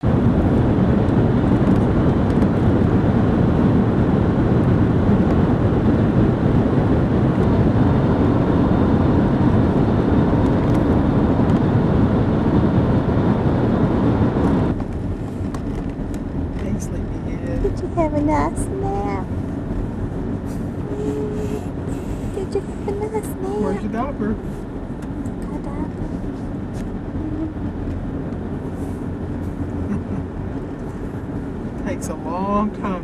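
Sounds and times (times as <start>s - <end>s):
vehicle cabin rumble and hiss: 0.0s - 33.0s.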